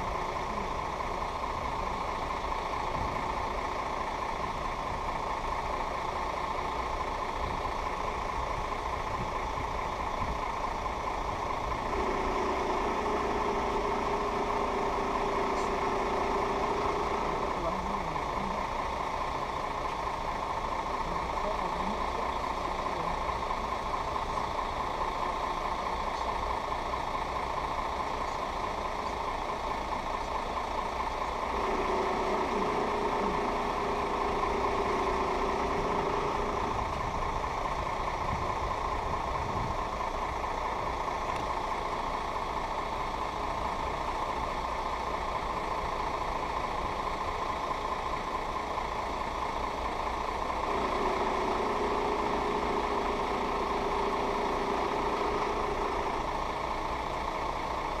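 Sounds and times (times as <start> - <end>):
engine idling hum: 0.0 - 58.0
low steady tone: 0.0 - 58.0.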